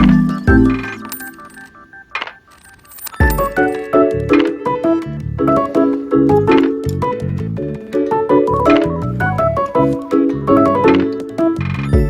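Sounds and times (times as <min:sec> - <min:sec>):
upbeat keyboard tune with beat: 0:00.0 - 0:12.0.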